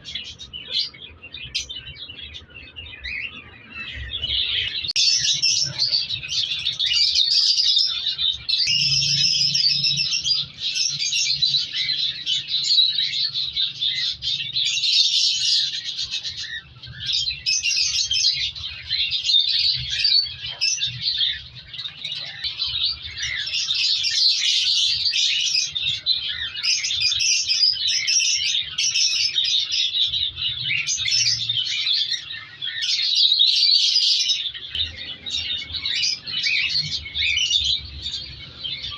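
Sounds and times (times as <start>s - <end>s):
caged birds chirping: 0.0s - 38.9s.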